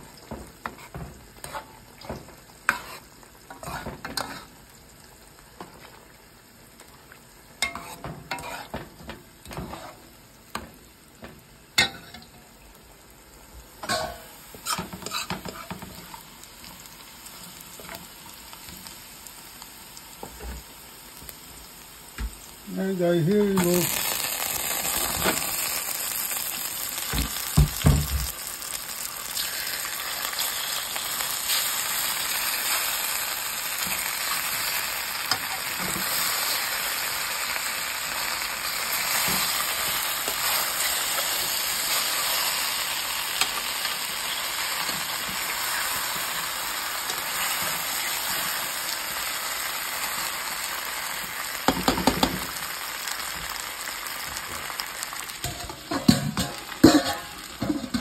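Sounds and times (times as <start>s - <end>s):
food sizzling in oil: 0.0s - 58.0s.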